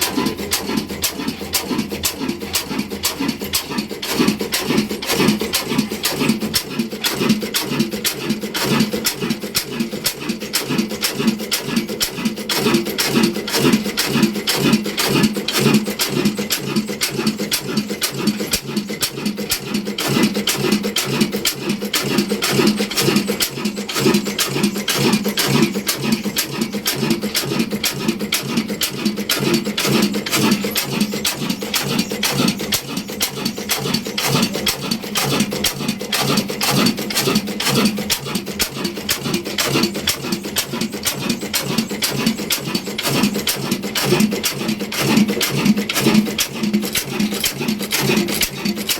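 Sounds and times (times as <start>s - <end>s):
diesel engine chuffing: 0.0s - 48.9s.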